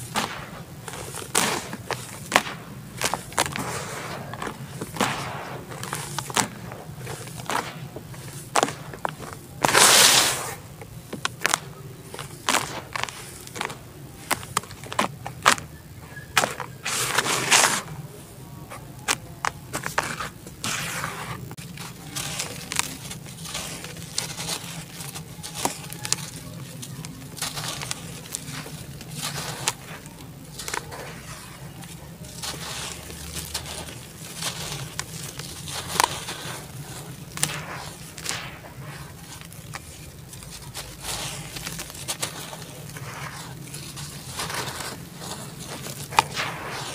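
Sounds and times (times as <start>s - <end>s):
dry clay crunching: 0.0s - 46.9s
dry dirt pouring: 0.0s - 46.9s.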